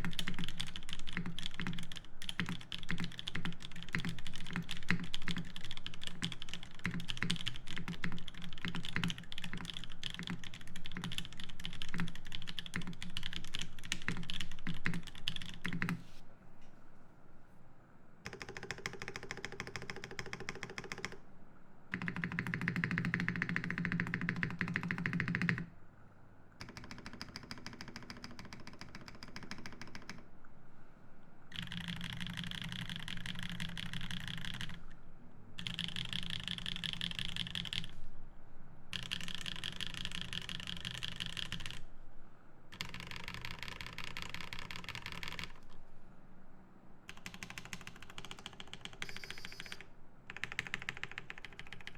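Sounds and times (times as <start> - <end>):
mechanical keyboard typing: 0.0 - 16.0, 18.2 - 21.2, 21.9 - 25.7, 26.6 - 30.2, 31.5 - 35.0, 35.6 - 38.0, 38.9 - 41.8, 42.7 - 45.8, 47.1 - 51.9.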